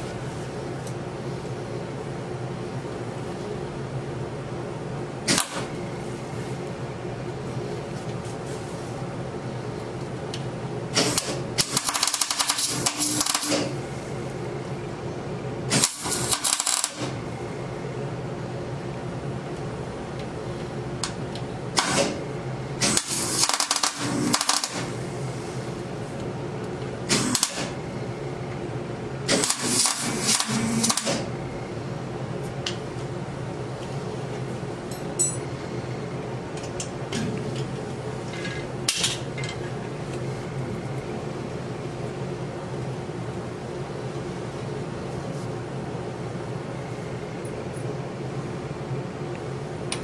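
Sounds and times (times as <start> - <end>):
machine hum: 0.0 - 50.0.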